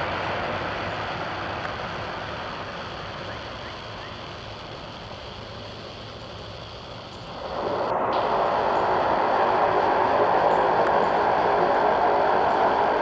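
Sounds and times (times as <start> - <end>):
turboprop engines and propellers: 0.0 - 13.0.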